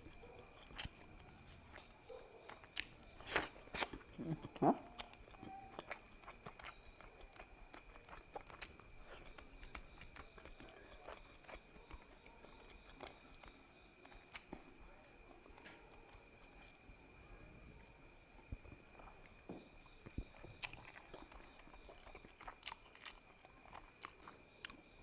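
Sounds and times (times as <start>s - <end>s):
chewing and mouth sounds: 0.0s - 17.0s, 18.4s - 25.0s.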